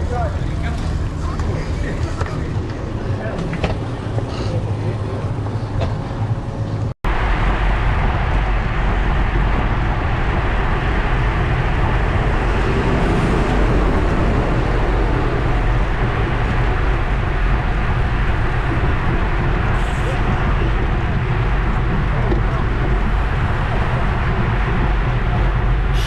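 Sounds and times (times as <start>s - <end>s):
tyre and road noise: 0.0s - 26.0s
wind rushing on microphone: 0.0s - 26.0s.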